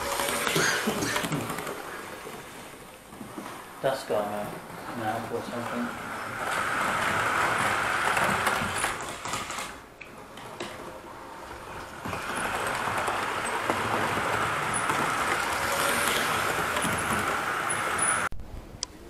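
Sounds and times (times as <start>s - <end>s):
model train motor whirring: 0.0s - 2.9s, 5.0s - 18.3s.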